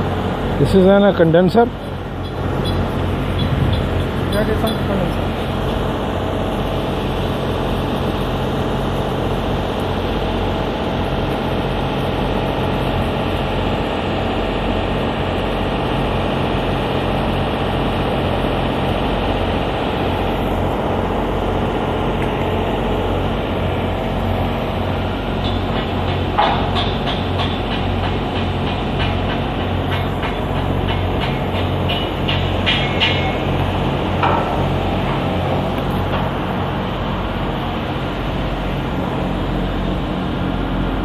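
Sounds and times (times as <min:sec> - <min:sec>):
industrial machinery drone: 0:00.0 - 0:41.0.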